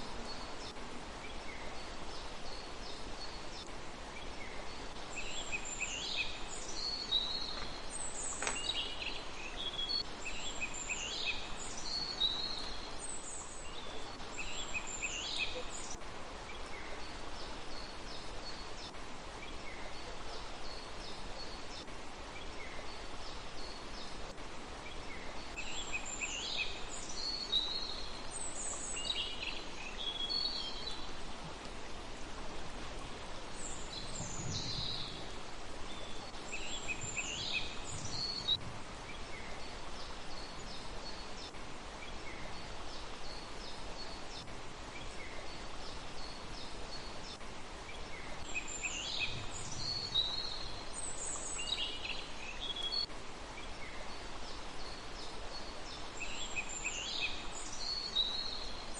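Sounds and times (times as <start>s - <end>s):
songbird chirping: 0.0s - 58.9s
steady outdoor hiss: 0.0s - 58.9s.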